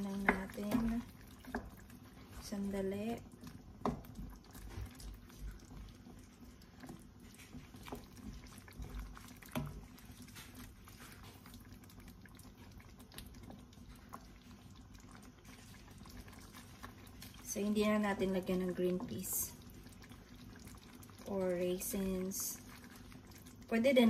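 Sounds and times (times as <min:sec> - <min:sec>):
sauce bubbling: 0:00.0 - 0:24.0.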